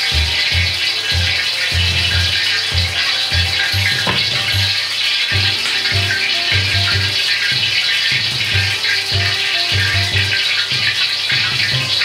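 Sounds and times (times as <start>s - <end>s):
background music with bass pulse: 0.0s - 12.0s.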